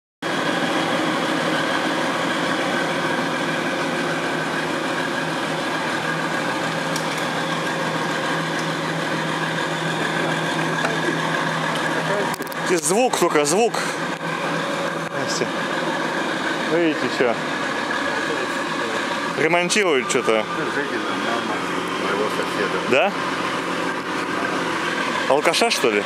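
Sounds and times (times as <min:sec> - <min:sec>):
steady machine drone: 0:00.2 - 0:26.0.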